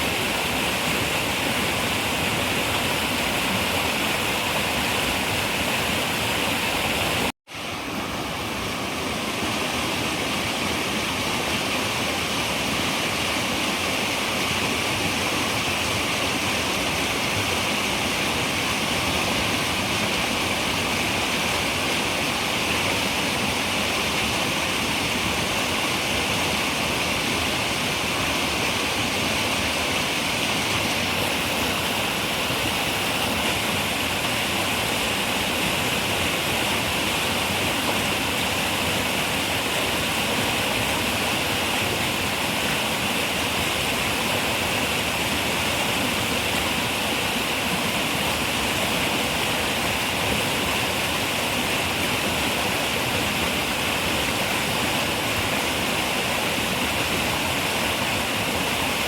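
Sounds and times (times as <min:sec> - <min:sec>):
river rushing water: 0:00.0 - 0:59.0.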